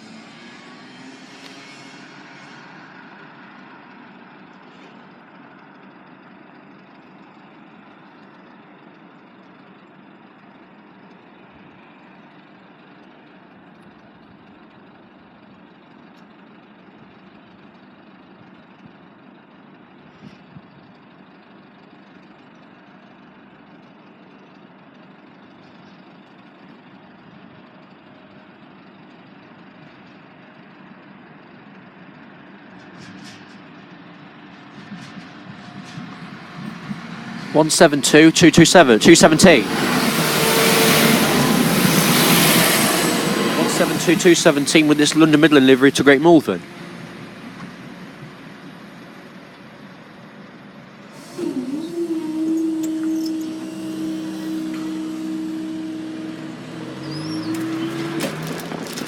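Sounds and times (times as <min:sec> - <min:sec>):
train diesel engine idling: 0:03.0 - 0:59.0.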